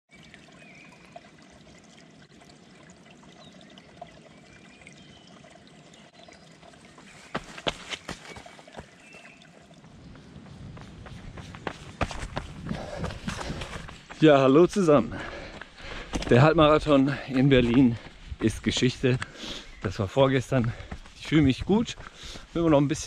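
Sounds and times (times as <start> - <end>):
stream trickling over stones: 0.1 - 23.0.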